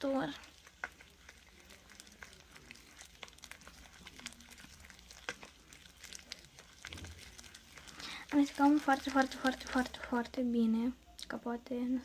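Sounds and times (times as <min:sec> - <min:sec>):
slime being stirred clicking: 0:00.0 - 0:10.4.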